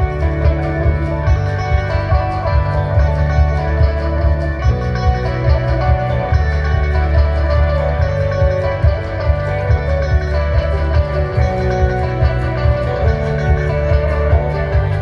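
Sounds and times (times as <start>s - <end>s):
drums with cymbal beat: 0.0s - 15.0s
electric guitar: 0.0s - 15.0s
live rock band playing: 0.0s - 15.0s.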